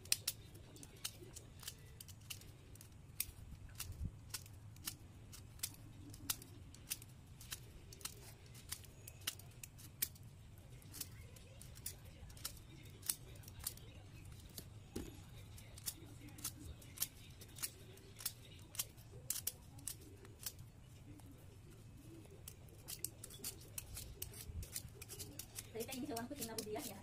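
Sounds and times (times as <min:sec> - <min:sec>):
faint low hum: 0:00.0 - 0:27.0
knife whittling wood: 0:00.0 - 0:27.0.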